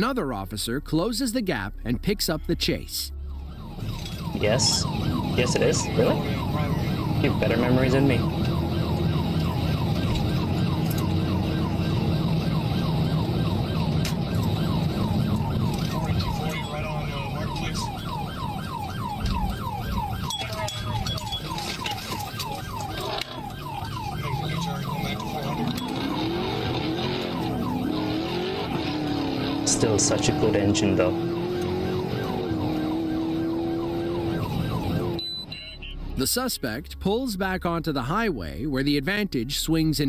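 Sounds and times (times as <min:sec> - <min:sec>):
police siren yelping: 0:02.7 - 0:36.2
car engine droning: 0:03.1 - 0:36.2.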